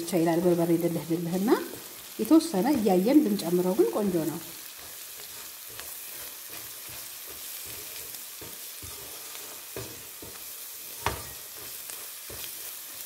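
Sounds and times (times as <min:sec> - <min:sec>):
food sizzling in a pan: 0:00.0 - 0:13.0
wooden spatula scraping and tapping: 0:00.4 - 0:13.0.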